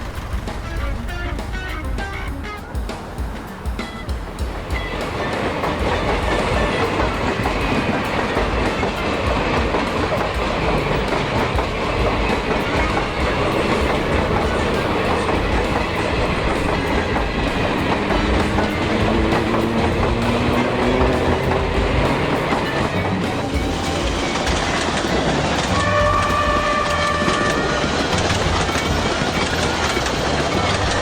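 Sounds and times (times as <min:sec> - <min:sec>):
train rumbling on rails: 0:00.0 - 0:31.0
wheels clicking over rail joints: 0:00.0 - 0:31.0.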